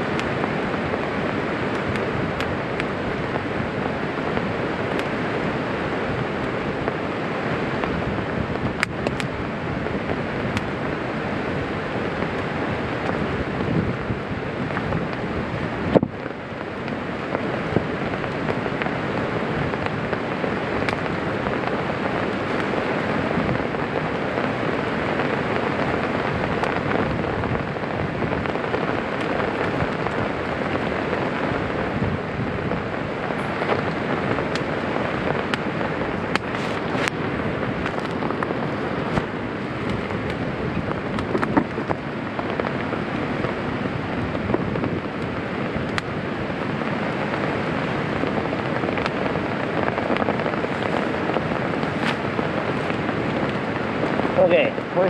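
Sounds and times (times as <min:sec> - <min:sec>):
steady rain: 0:00.0 - 0:55.0
wind: 0:00.0 - 0:55.0.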